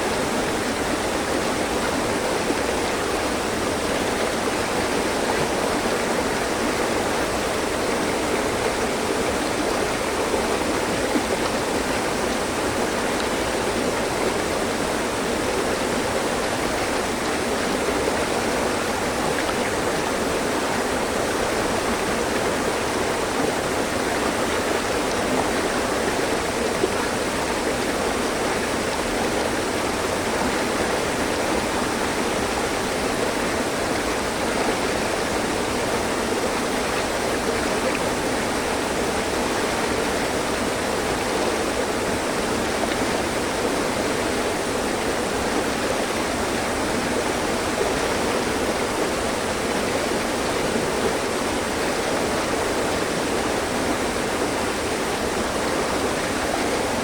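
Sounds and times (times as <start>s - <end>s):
water running over rocks: 0.1s - 57.0s.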